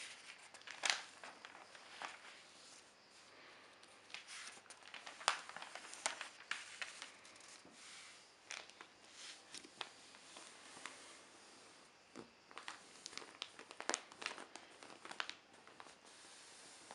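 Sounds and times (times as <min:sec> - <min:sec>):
newspaper pages crackling: 0:00.0 - 0:02.9, 0:03.8 - 0:11.3, 0:12.1 - 0:16.9.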